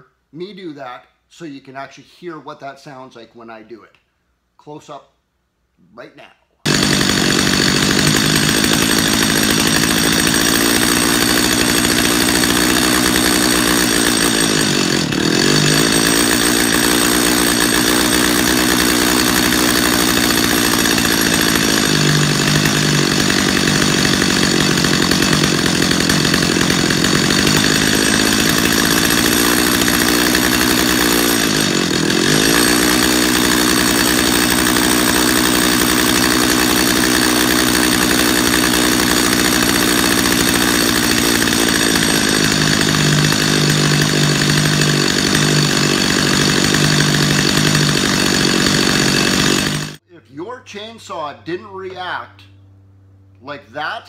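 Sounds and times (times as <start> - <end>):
chainsaw engine idling: 6.6 - 50.0.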